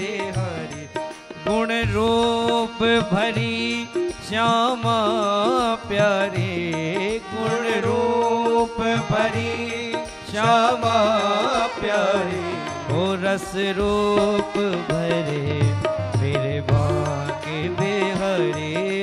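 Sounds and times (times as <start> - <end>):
keyboard accompaniment: 0.0 - 19.0
man singing devotional song: 0.0 - 19.0.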